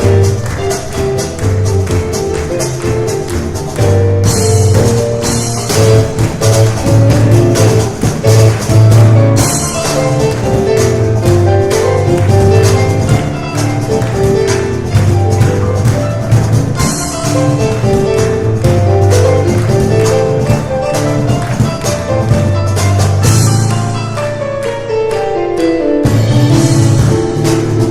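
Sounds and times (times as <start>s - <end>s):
cajon strokes: 0.0s - 24.1s
piano runs: 0.0s - 27.9s.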